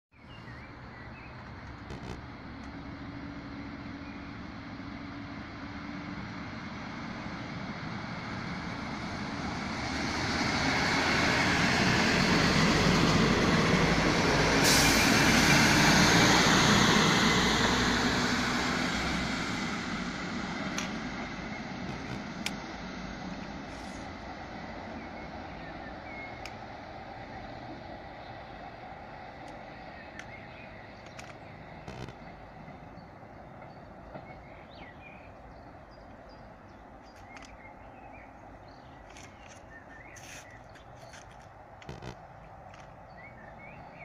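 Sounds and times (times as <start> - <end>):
diesel railcar engine: 0.2 - 44.0
train wheels on track: 1.3 - 44.0.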